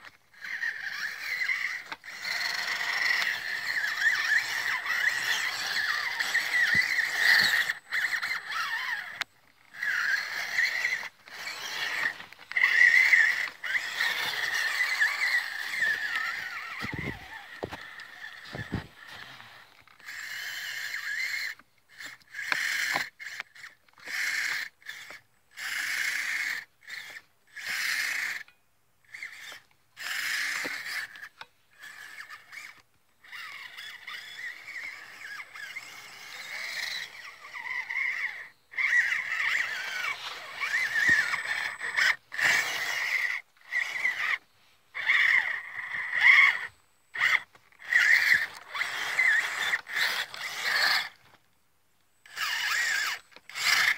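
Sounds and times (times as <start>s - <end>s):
toy car electric motor whining: 0.0s - 51.4s, 52.2s - 53.9s.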